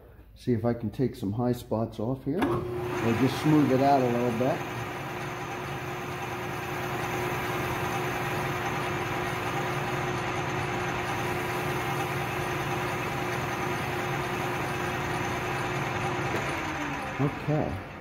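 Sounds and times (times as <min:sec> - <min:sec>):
lathe running with a hum: 0:02.4 - 0:18.0.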